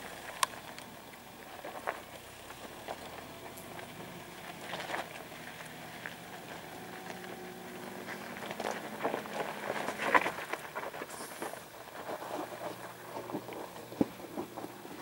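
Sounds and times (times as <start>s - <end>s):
car engine running at low revs: 0.0s - 15.0s
stones crunching under tyres: 0.0s - 15.0s.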